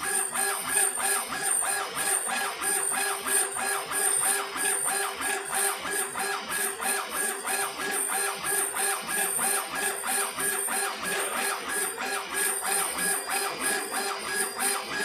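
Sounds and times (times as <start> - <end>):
laser engraver motors whining: 0.0 - 15.0.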